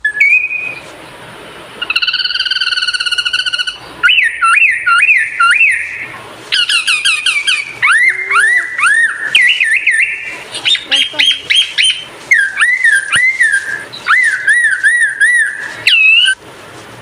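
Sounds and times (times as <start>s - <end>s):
songbird singing: 0.0s - 16.4s.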